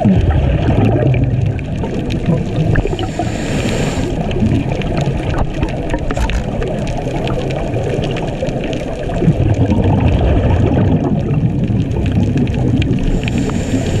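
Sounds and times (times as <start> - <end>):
underwater rush of water: 0.0 - 14.0.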